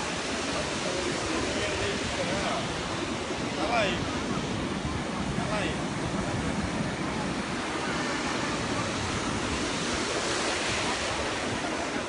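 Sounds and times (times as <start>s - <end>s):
waves breaking on beach: 0.0s - 12.0s
wind on microphone: 0.0s - 12.0s.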